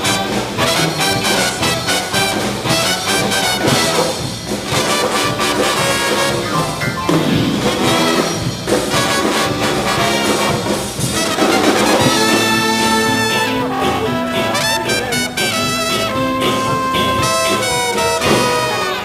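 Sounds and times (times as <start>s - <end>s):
jazzy brass band music: 0.0s - 19.0s.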